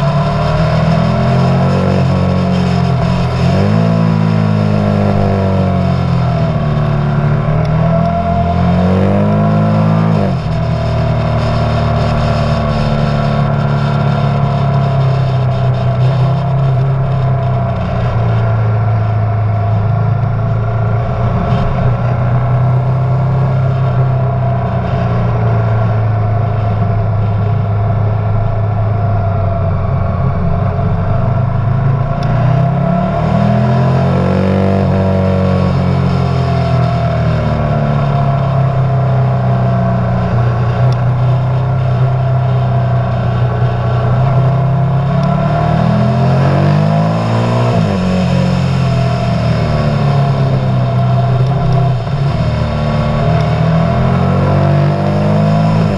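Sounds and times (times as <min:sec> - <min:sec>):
rushing noise: 0:00.0 - 0:38.4, 0:39.3 - 0:55.9
motorcycle engine revving: 0:00.0 - 0:55.9.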